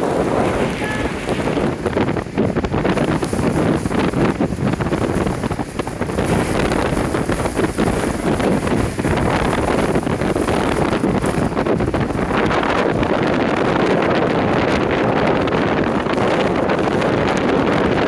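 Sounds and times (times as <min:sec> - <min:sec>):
strong wind buffeting microphone: 0:00.0 - 0:18.0
surf breaking on shore: 0:00.0 - 0:18.0.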